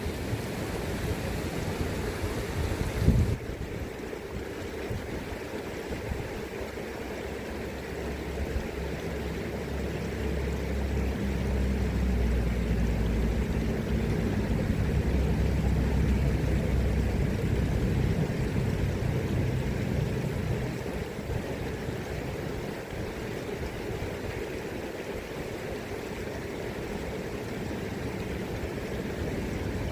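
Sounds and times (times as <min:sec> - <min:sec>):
low engine rumble: 0:00.0 - 0:29.9
river current rushing: 0:00.0 - 0:29.9
wind: 0:00.0 - 0:29.9.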